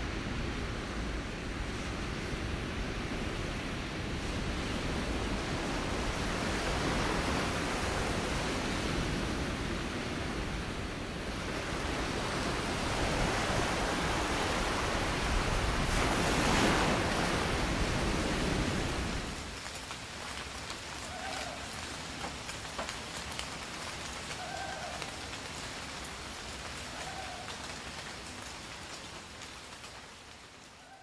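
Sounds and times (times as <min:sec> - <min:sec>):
waves breaking: 0:01.6 - 0:28.6.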